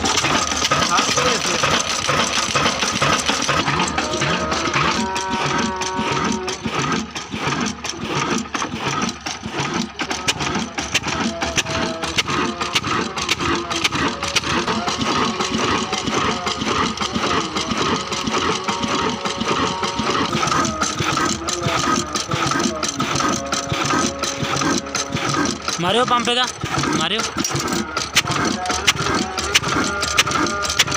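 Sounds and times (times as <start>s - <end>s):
stationary diesel engine knocking: 0.0s - 30.9s.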